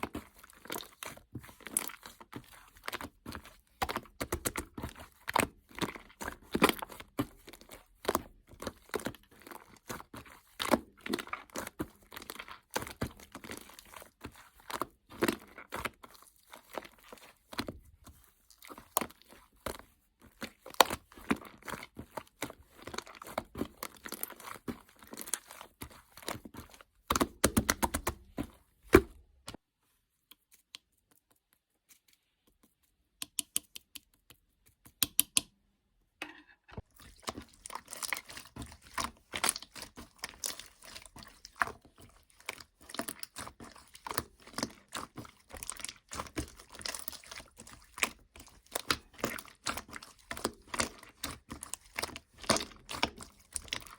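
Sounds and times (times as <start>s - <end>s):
slime squishing and crackling: 0.0s - 29.5s, 36.8s - 53.9s.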